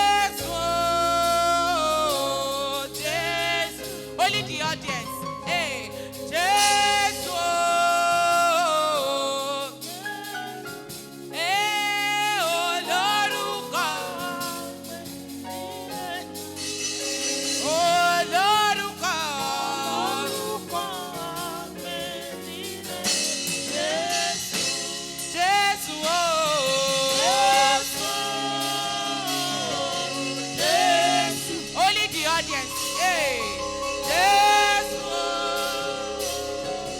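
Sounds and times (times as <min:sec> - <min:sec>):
gospel choir singing: 0:00.0 - 0:36.9
instrumental accompaniment: 0:00.0 - 0:36.9.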